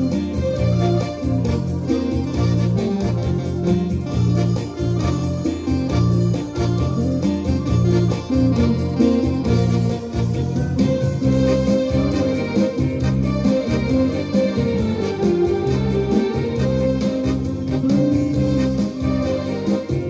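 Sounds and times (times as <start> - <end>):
flute melody: 0.0 - 20.0
organ-like keyboard chords: 0.0 - 20.0.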